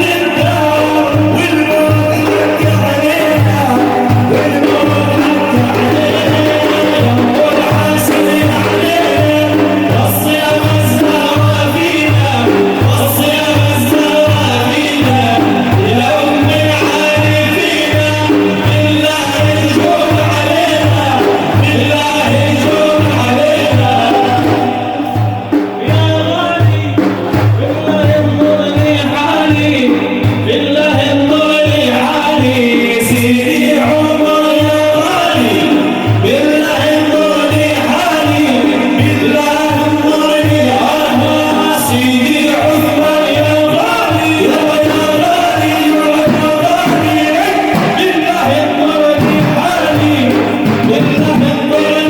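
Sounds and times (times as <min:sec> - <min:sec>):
frame drums beating: 0:00.0 - 0:52.0
men chanting: 0:00.0 - 0:52.0.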